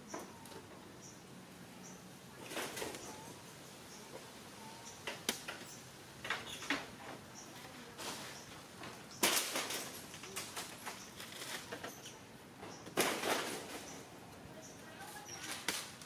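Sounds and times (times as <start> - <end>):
leaves and twigs rustling: 2.0 - 16.0.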